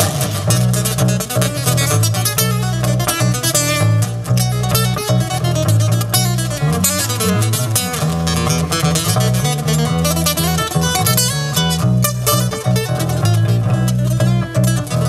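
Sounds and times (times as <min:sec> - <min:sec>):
acoustic guitar strummed: 0:00.0 - 0:15.0
electric bass: 0:00.0 - 0:15.0.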